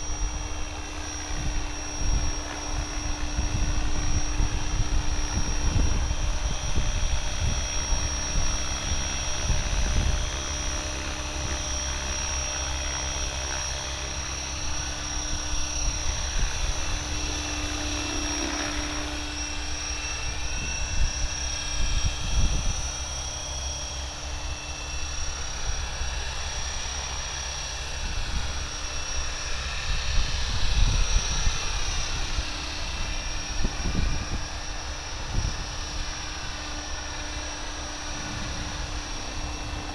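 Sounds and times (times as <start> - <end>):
wind buffeting microphone: 0.0 - 23.6, 28.0 - 39.9
rc helicopter motor whine: 0.0 - 39.9.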